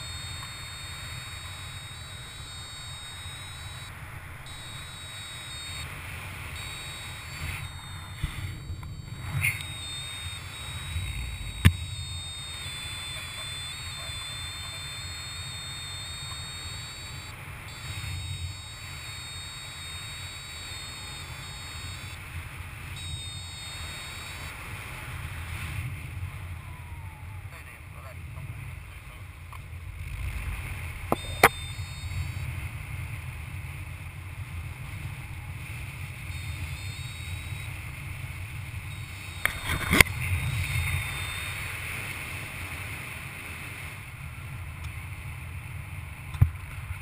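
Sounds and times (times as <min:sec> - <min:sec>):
variometer electronic tone: 0:00.0 - 0:25.8, 0:30.0 - 0:33.2, 0:34.4 - 0:43.9.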